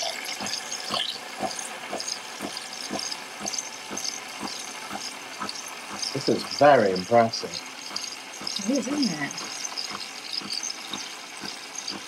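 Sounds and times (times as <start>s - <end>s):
coffee machine frothing milk: 0.0s - 12.0s.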